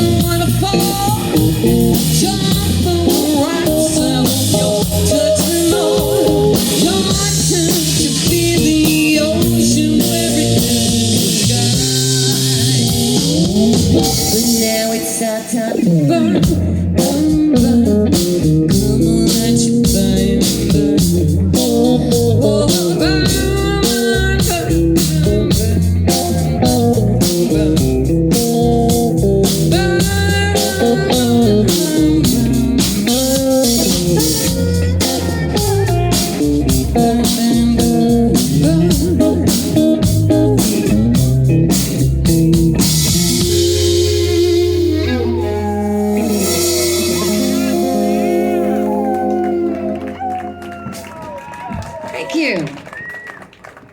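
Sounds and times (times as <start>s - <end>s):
electric guitar: 0.0s - 52.1s
blues band playing: 0.0s - 53.9s.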